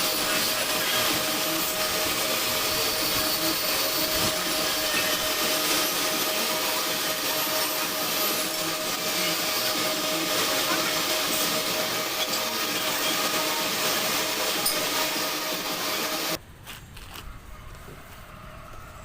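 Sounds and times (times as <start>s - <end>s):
metal lathe running: 0.0s - 16.4s.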